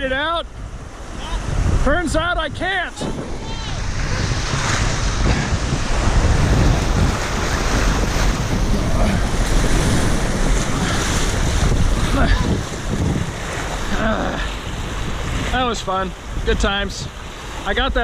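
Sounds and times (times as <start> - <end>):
river rapids roaring: 0.0 - 18.0
wind buffeting microphone: 0.0 - 18.0.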